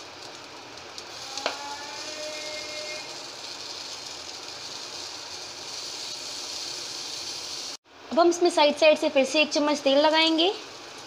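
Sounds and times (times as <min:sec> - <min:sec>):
batter sizzling on a hot pan: 0:00.0 - 0:07.8, 0:09.5 - 0:11.0.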